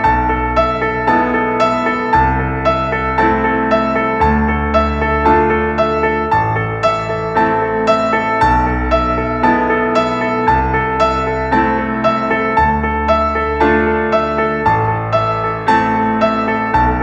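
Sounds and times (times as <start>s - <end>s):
slow bass notes: 0.0s - 17.0s
soft electric piano music: 0.0s - 17.0s.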